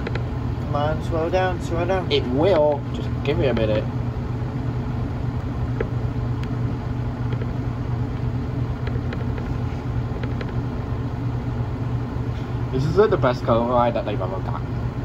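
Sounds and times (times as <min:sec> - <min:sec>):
washing machine drum spinning: 0:00.0 - 0:15.0.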